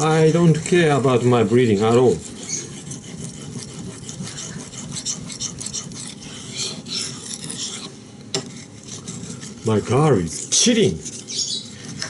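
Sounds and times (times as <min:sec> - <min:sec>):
knife scraping on sharpening stone: 0:01.8 - 0:12.0.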